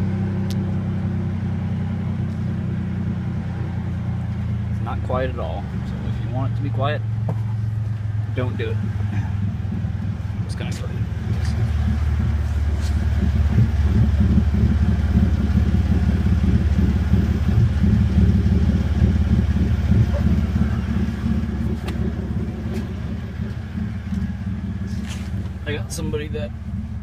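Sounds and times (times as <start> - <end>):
engine exhaust deep rumble: 0.0 - 27.0.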